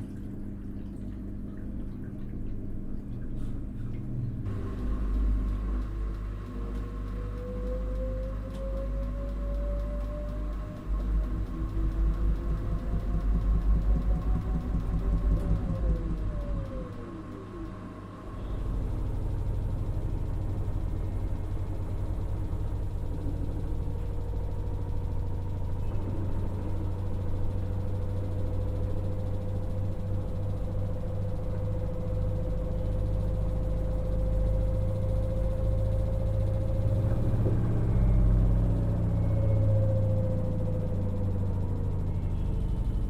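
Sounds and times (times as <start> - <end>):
washing machine motor hum: 0.0 - 43.0
washing machine whine: 0.0 - 43.0.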